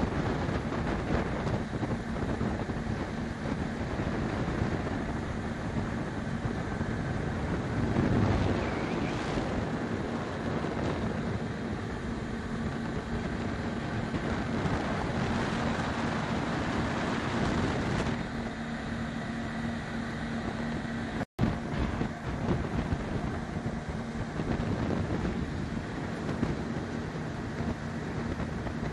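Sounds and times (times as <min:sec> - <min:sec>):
boat engine humming: 0:00.0 - 0:28.9
water rushing along hull: 0:00.0 - 0:28.9
wind buffeting microphone: 0:00.0 - 0:28.9.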